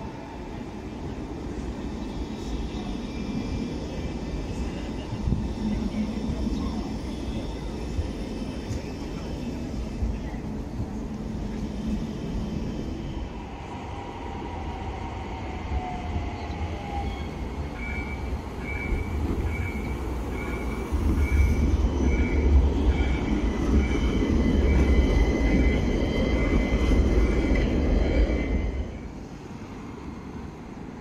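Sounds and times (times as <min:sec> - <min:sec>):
tram rumbling past: 0:00.0 - 0:31.0.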